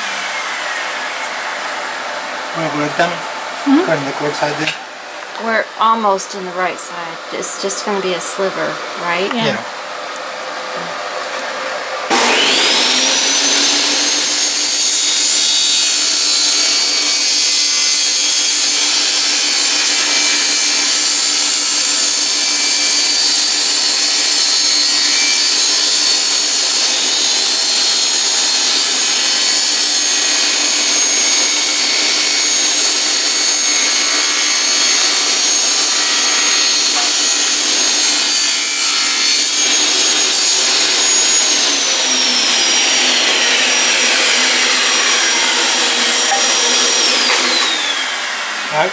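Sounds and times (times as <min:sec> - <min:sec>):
power saw cutting wood: 0:00.0 - 0:48.9.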